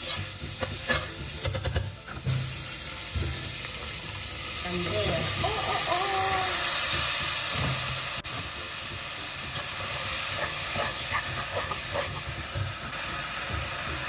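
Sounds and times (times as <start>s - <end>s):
food sizzling and hissing: 0.0s - 14.0s.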